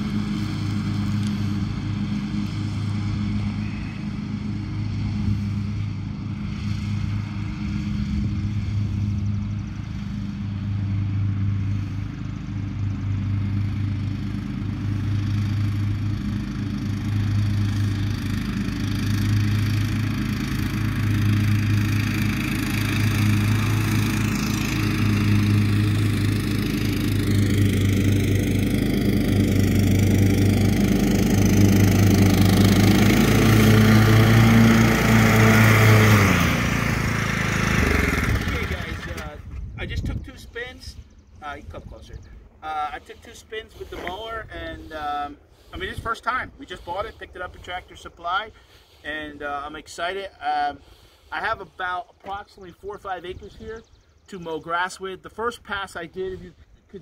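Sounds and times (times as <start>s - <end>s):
riding lawn mower engine: 0.0s - 57.0s.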